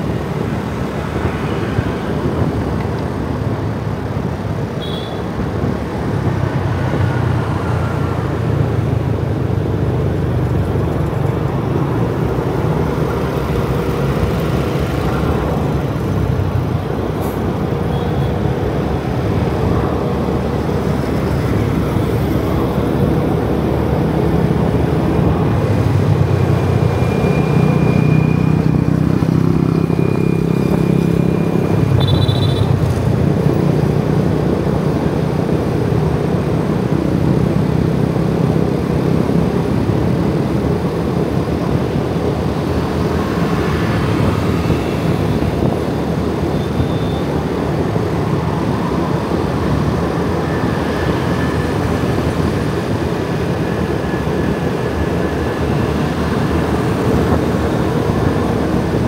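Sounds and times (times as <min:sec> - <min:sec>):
road and wind noise: 0:00.0 - 0:59.0
scooters and cars passing: 0:00.0 - 0:59.0.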